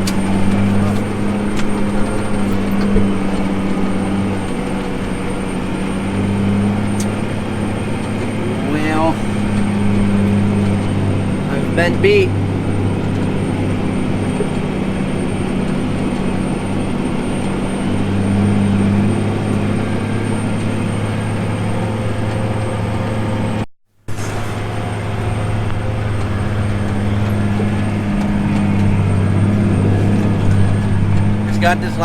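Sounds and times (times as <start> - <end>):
tractor diesel engine droning: 0.0 - 32.0.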